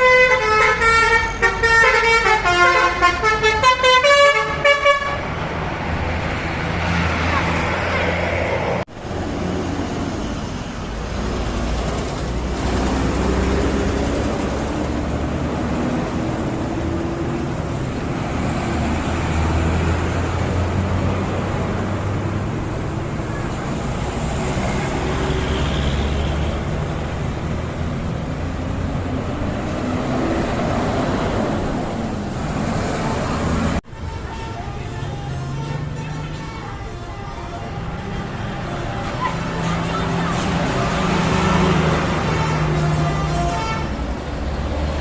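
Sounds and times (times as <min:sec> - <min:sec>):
bus engine rumble: 0:00.0 - 0:45.0
road traffic: 0:00.0 - 0:45.0.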